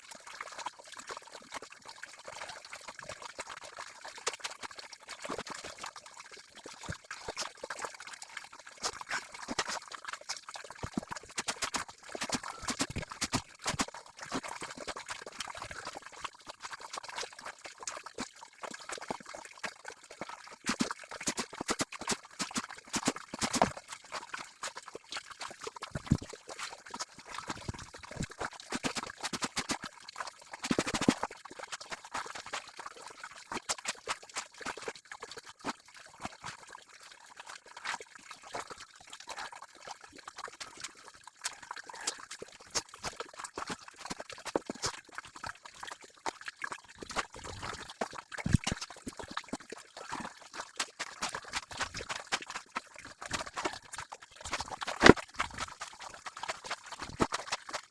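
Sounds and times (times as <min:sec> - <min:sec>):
water trickling and dripping: 0:00.0 - 0:57.9.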